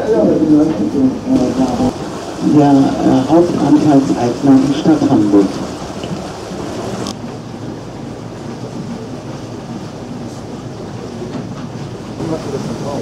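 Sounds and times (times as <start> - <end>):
rushing water: 0.0 - 13.0
steamboat engine rumble: 0.0 - 13.0.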